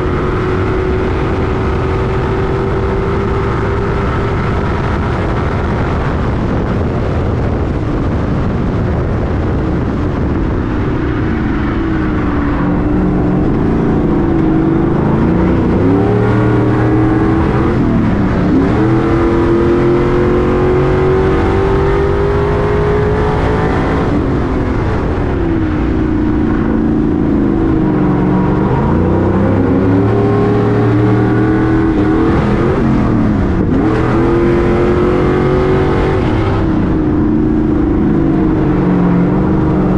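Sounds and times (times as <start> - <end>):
truck engine racing: 0.0 - 39.9.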